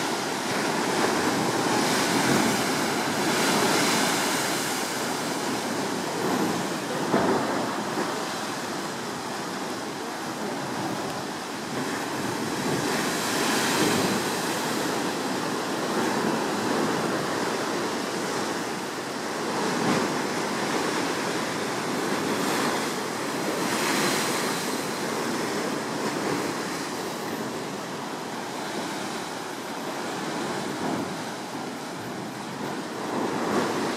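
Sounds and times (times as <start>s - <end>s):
sea surf roaring in rocks: 0.0s - 33.9s.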